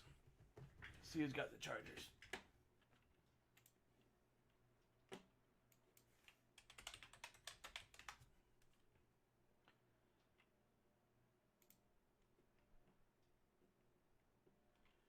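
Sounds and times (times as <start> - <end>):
faint keyboard typing: 0.0 - 10.7, 11.5 - 15.0.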